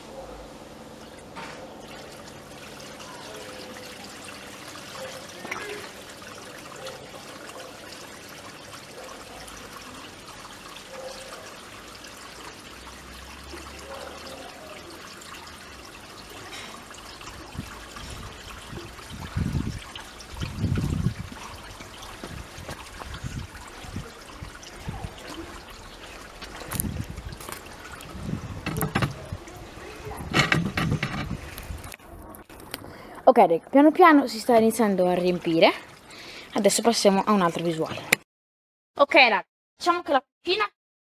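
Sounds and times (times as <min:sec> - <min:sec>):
water trickling from hose: 0:00.8 - 0:38.2.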